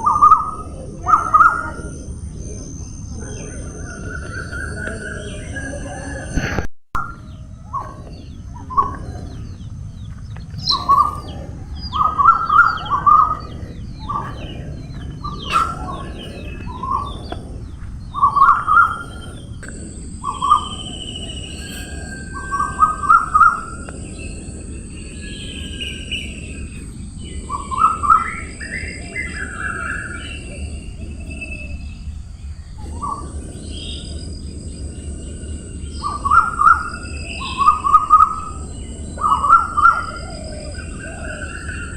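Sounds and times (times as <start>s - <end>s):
birds chirping: 0.0s - 41.9s
steady high hiss: 0.0s - 41.9s
steady low rumble: 0.0s - 41.9s.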